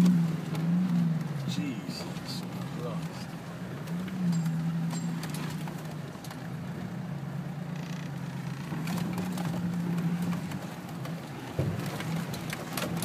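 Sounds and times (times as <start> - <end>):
vehicle engine at low revs: 0.0 - 13.0.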